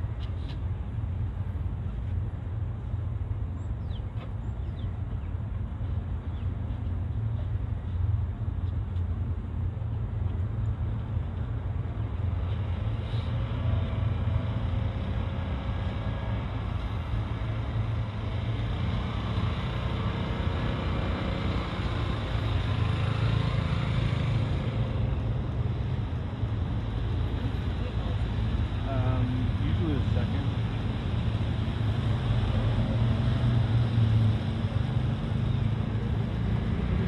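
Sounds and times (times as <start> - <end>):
motor vehicles rumbling: 0.0 - 37.0.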